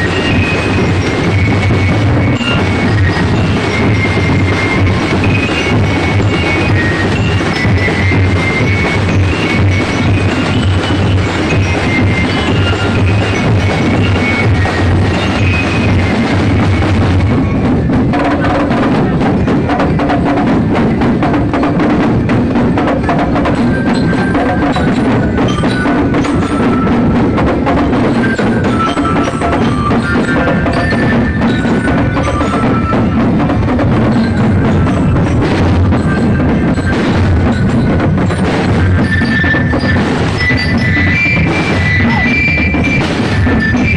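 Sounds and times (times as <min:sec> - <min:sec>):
percussion-led music: 0:00.0 - 0:43.9.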